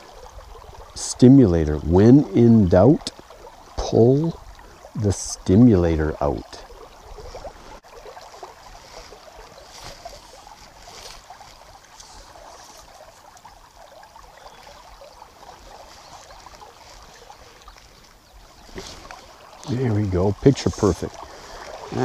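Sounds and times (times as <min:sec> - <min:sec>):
river running over pebbles: 0:00.0 - 0:22.0.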